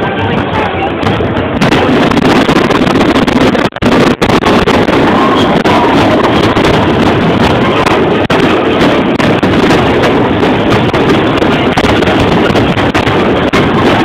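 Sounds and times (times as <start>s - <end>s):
fireworks launching and bursting: 0.0s - 14.0s.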